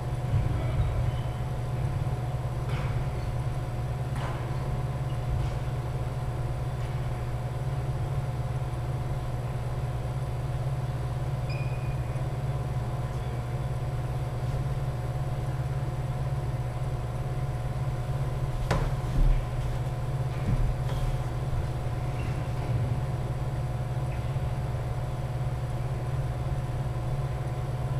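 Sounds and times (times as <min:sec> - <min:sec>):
low machine hum: 0:00.0 - 0:27.9.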